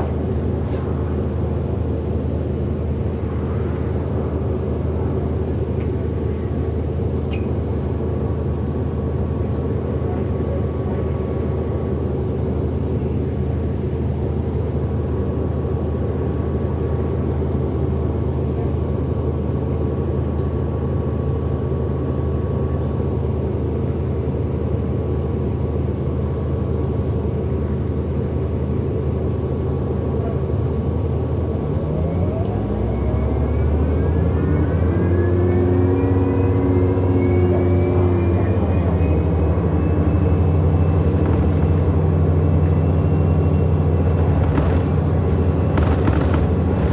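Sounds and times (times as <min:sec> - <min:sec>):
bus interior drone: 0:00.0 - 0:46.9.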